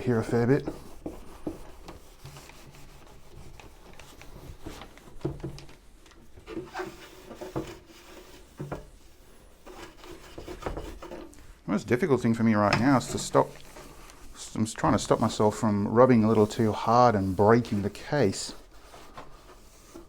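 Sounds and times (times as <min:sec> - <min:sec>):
cloth scrubbing plastic case: 0:00.0 - 0:11.4, 0:12.2 - 0:20.0.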